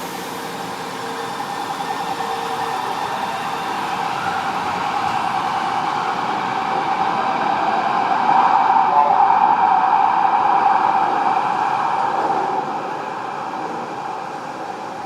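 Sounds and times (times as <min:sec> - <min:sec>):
train rushing with humming: 0:00.0 - 0:15.0.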